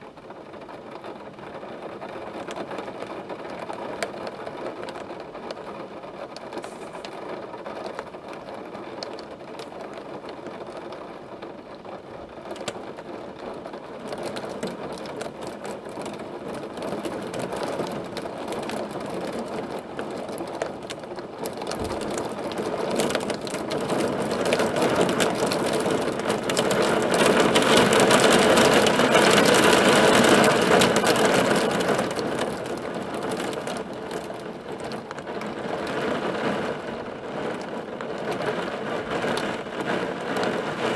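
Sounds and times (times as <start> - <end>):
hail drumming on hard surface: 0.2 - 40.9.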